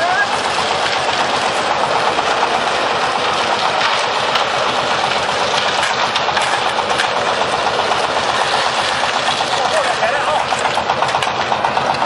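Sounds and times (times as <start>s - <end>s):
concrete mixer running: 0.0s - 12.0s.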